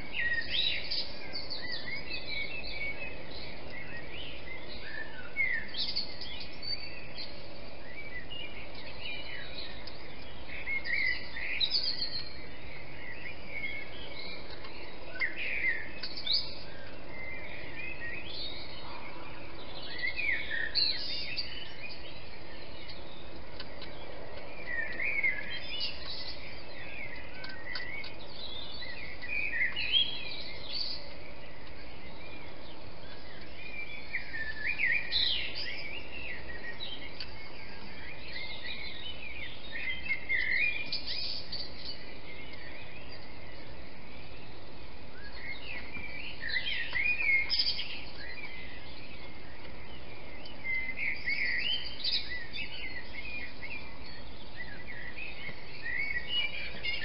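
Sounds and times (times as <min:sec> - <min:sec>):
background hiss: 0:00.0 - 0:57.0
songbird singing: 0:00.0 - 0:57.0.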